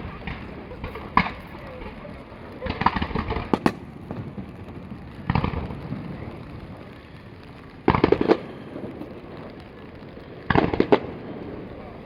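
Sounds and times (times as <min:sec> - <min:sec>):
fireworks booming and banging: 0:00.0 - 0:12.0.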